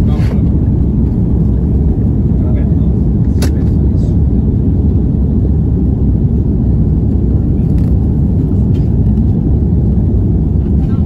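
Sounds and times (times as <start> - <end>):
aircraft engine drone in cabin: 0.0 - 11.0.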